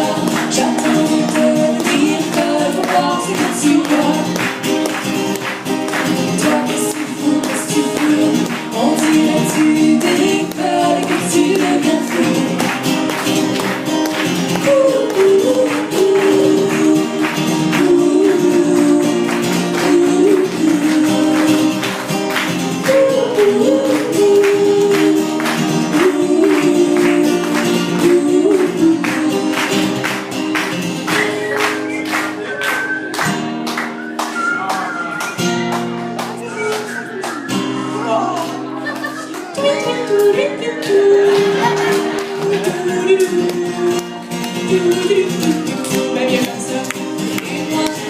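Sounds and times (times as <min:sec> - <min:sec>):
pop band playing: 0:00.0 - 0:48.0.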